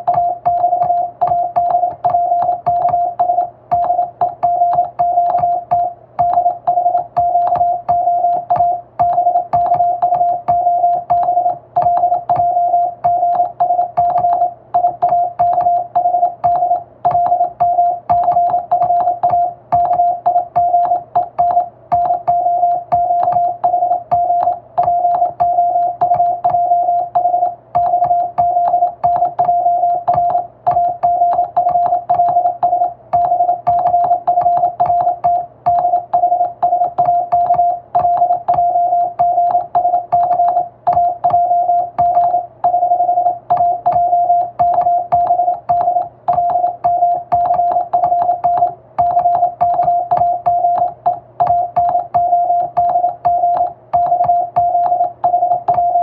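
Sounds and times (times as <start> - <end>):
morse code beep tone: 0.0 - 56.0
telegraph key clicks: 0.0 - 56.0.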